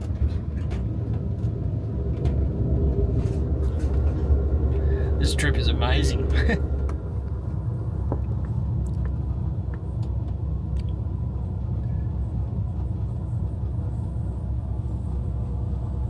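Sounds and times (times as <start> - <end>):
moving train rumble: 0.0 - 16.0.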